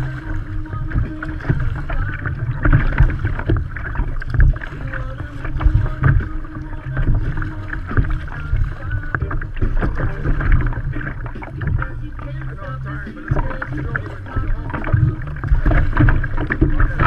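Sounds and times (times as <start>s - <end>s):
kayak paddle strokes: 0.0s - 17.0s
water slapping against kayak hull: 0.0s - 17.0s
wind rumbling on microphone: 0.0s - 17.0s.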